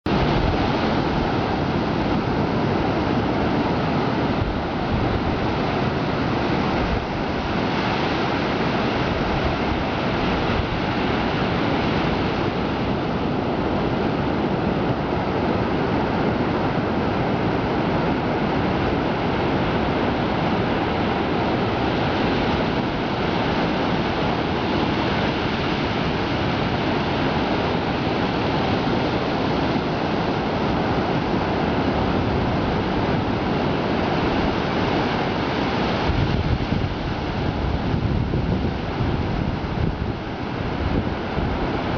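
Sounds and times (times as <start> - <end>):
wind buffeting microphone: 0.0 - 41.9
surf breaking on shore: 0.1 - 41.9.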